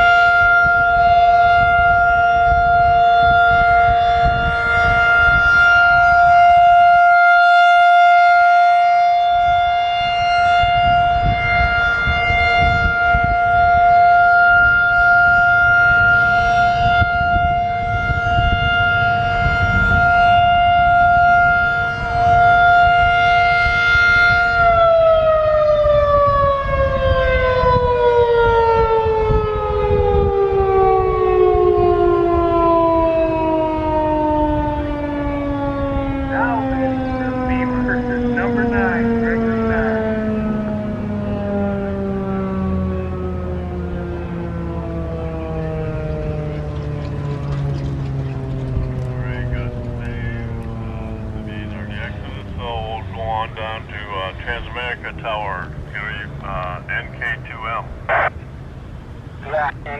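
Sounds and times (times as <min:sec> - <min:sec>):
warning siren: 0:00.0 - 0:59.9
wind rumble on microphone: 0:00.0 - 0:59.9.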